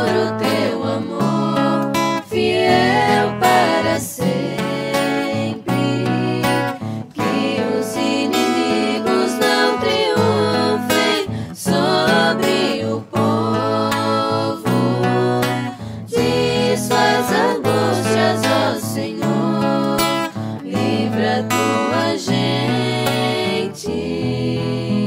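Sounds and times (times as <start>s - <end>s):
acoustic guitar strumming: 0.0s - 25.0s
person singing a psalm: 0.0s - 25.0s.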